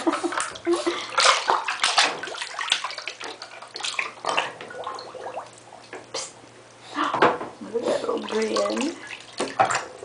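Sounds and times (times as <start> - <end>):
bathwater splashing: 0.0 - 6.4, 7.7 - 10.0.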